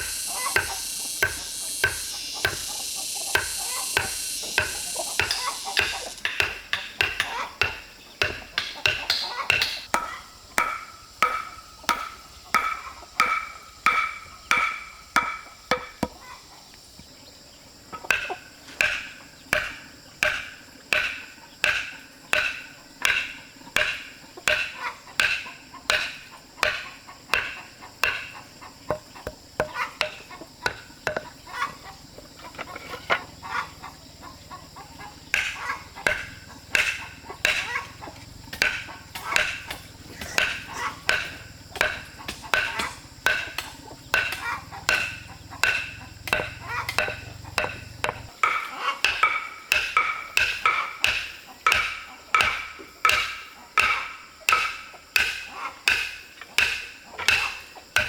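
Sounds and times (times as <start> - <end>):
ringing hand tool strikes: 0.0 - 16.2, 18.1 - 31.5, 34.7 - 58.0
chickens calling: 0.0 - 58.0.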